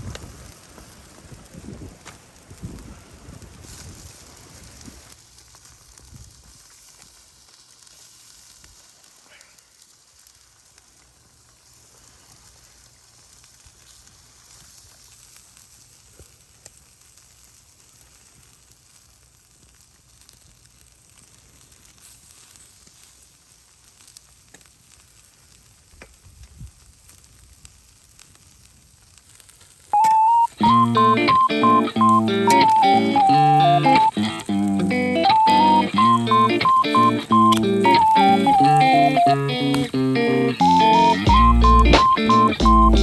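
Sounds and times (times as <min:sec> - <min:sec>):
meat sizzling on a grill: 0:00.0 - 0:30.0, 0:33.5 - 0:36.9, 0:37.6 - 0:41.0.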